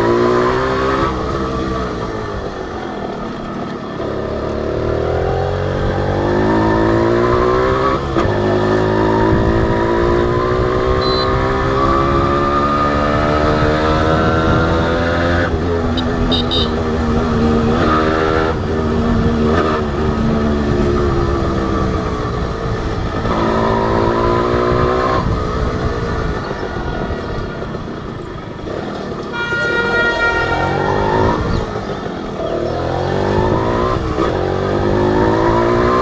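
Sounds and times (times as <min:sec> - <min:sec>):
two-stroke motorcycle accelerating: 0:00.0 - 0:36.0.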